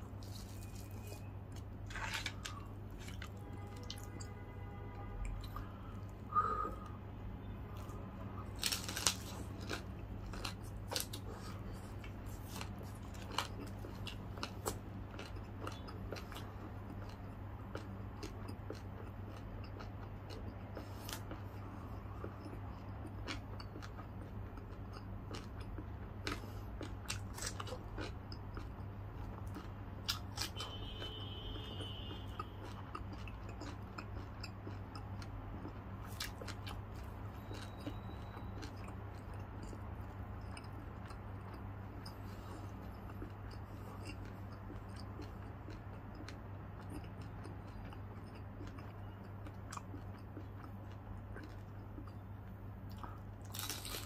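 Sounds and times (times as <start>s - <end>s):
crispy food crunching: 0.0s - 4.4s, 7.7s - 52.2s, 52.8s - 54.0s
person chewing and biting: 0.0s - 4.4s, 7.8s - 52.2s, 52.9s - 54.0s.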